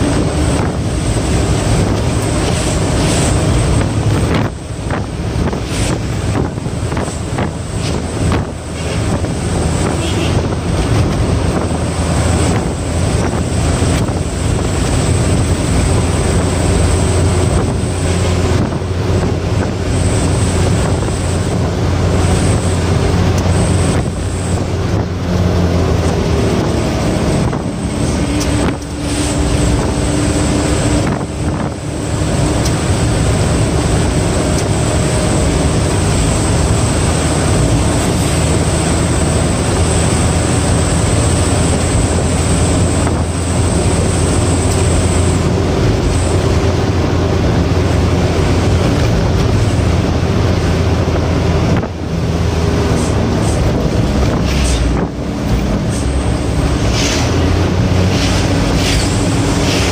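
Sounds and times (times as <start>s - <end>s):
truck engine drone: 0.0s - 59.9s
wind and road rush: 0.0s - 59.9s.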